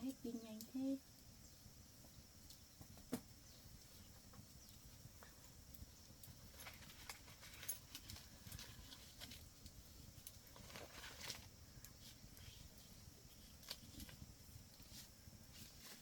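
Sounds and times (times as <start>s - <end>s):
small ticks: 2.0s - 3.2s, 3.8s - 15.5s.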